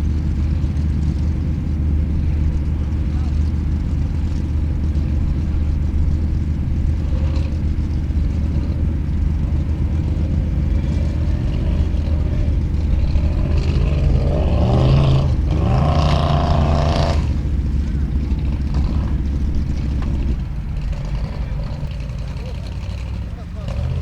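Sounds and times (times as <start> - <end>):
engine rumbling and revving: 0.0 - 24.0.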